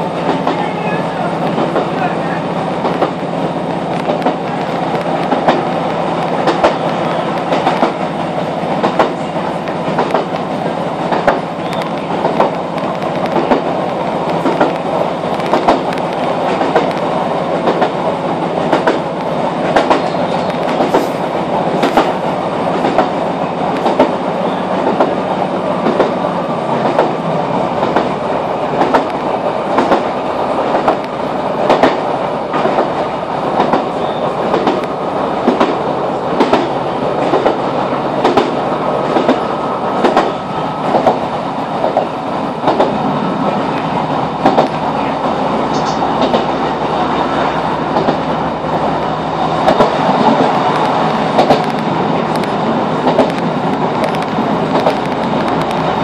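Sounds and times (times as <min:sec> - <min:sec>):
train rumbling with diesel engine: 0:00.0 - 0:56.0
wheels clicking over rail joints: 0:00.0 - 0:56.0.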